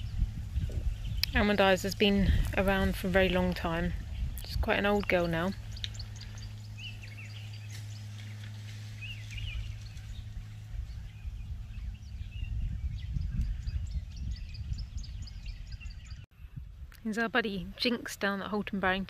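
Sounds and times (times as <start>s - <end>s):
low rumble: 0.0s - 17.8s
small birds chirping: 0.0s - 19.0s
steady low hum: 0.0s - 19.0s.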